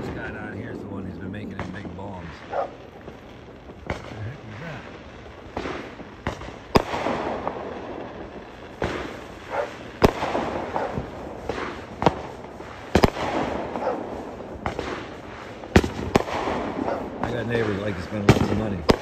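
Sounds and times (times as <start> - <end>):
fireworks crackling and popping: 0.0 - 19.0
fireworks exploding: 0.0 - 19.0.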